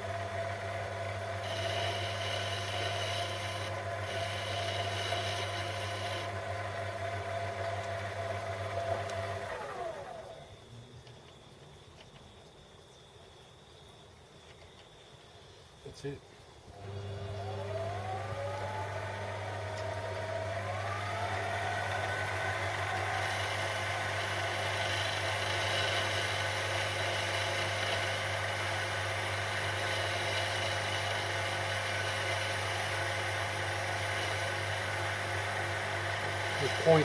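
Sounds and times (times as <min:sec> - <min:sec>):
electric motor whining: 0:00.0 - 0:10.5, 0:16.8 - 0:37.0.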